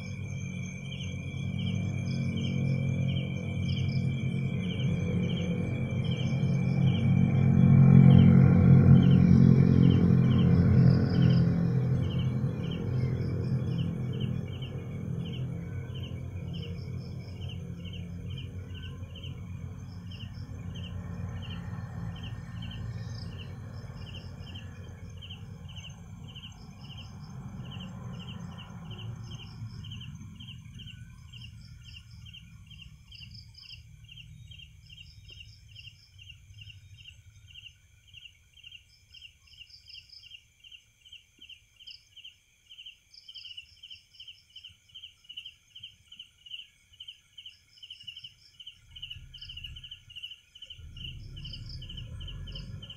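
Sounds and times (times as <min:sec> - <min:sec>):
low background rumble: 0:00.0 - 0:38.7, 0:48.6 - 0:52.9
cricket chirping: 0:00.0 - 0:52.9
higher insect chirps: 0:00.0 - 0:52.9.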